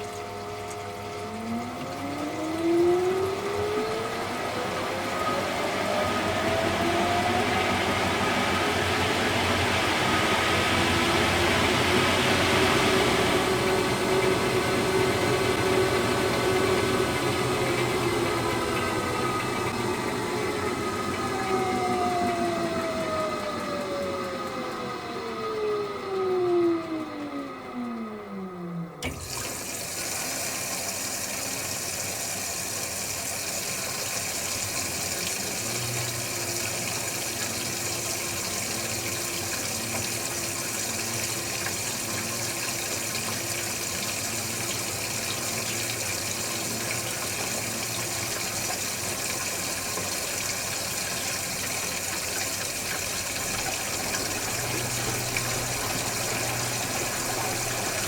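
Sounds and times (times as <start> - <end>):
washing machine filling with water: 0.0 - 58.0.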